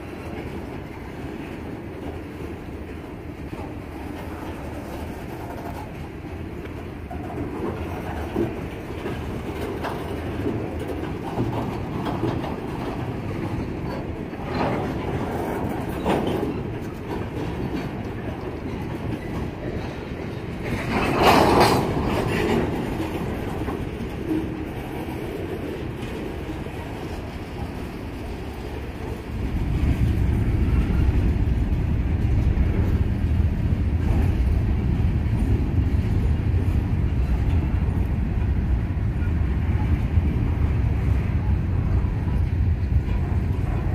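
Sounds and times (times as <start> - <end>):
freight train rumbling past: 0.0 - 43.9
wheels clattering over rail joints: 0.0 - 43.9.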